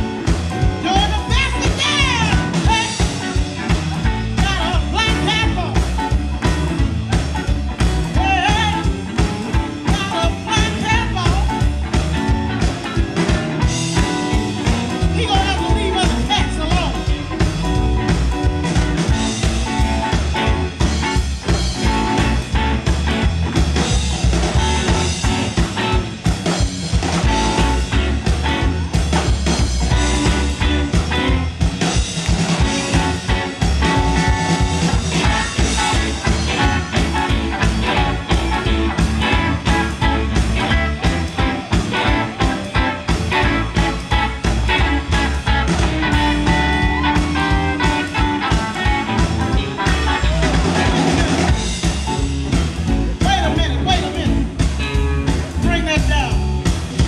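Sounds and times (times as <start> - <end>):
drums on a steady beat: 0.0 - 57.0
electric guitars: 0.0 - 57.0.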